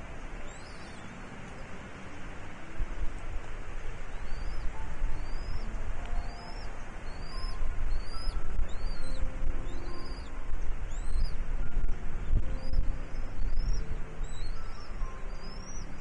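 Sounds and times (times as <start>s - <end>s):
bird chirping: 0.0s - 1.8s, 4.1s - 16.0s
steady low rumble: 0.0s - 16.0s.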